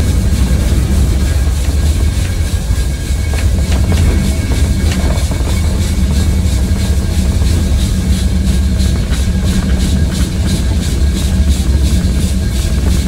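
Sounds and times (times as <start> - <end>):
steam locomotive chuffing: 0.0 - 13.0
steam venting: 0.0 - 13.0.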